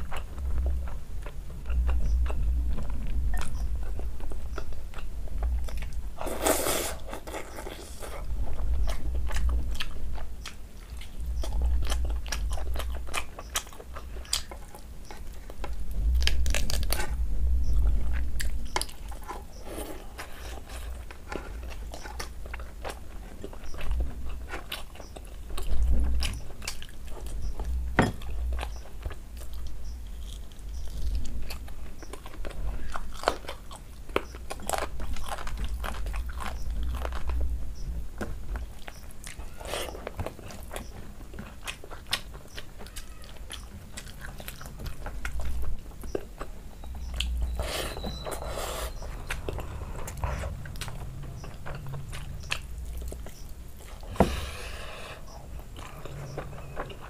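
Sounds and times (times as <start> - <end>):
chewing and mouth smacks: 0.0 - 37.5, 38.2 - 54.2
low steady hum: 0.0 - 57.0.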